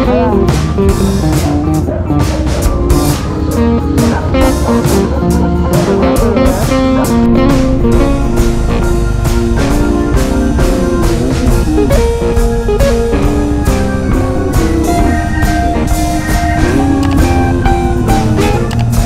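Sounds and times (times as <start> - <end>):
guitar melody: 0.0 - 19.0
steady drum beat: 0.0 - 19.0.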